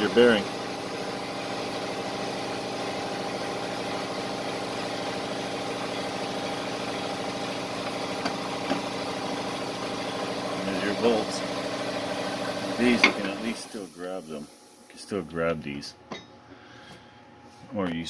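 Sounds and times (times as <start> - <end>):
motor humming steadily: 0.0 - 14.9.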